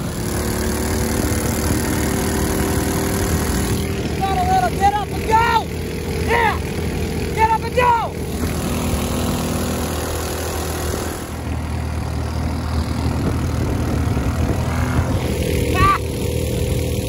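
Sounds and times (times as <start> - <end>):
boat engine running under load: 0.0 - 17.0.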